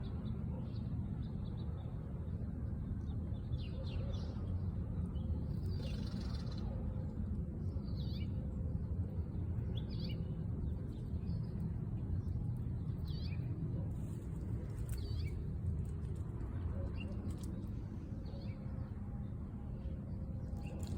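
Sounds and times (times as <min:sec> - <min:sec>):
low background rumble: 0:00.0 - 0:20.9.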